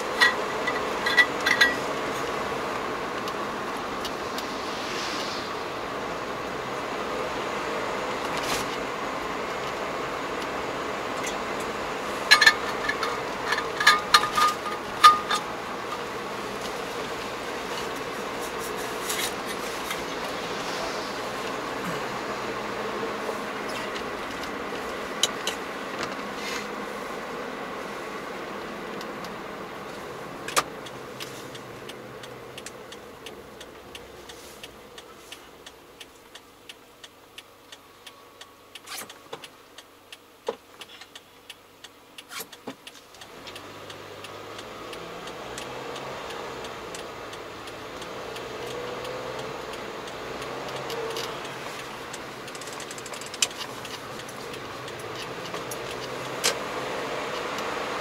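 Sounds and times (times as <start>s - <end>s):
car engine and tyre noise: 0.0s - 58.0s
regular ticking: 8.8s - 58.0s.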